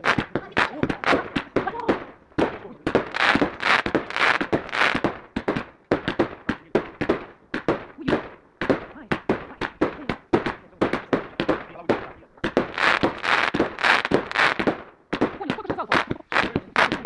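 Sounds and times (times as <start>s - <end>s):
crackling hiss of fireworks: 0.0s - 17.0s
fireworks bangs: 0.0s - 17.0s.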